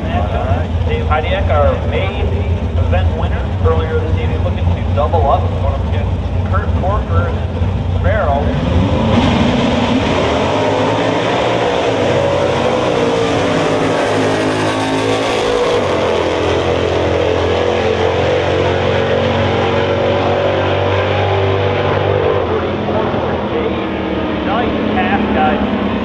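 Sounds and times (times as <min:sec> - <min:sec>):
racing car engines at full throttle: 0:00.0 - 0:26.0.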